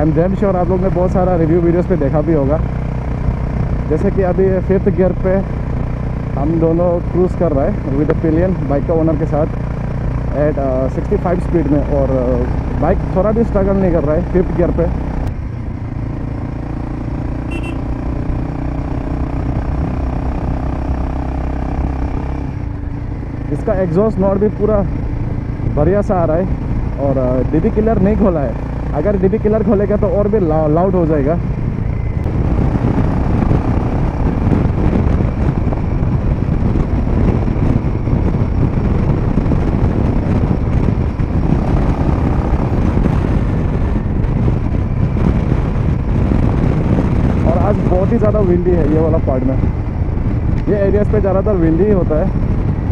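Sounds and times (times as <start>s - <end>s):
motorcycle engine cruising: 0.0s - 52.9s
wind noise on microphone: 0.0s - 52.9s.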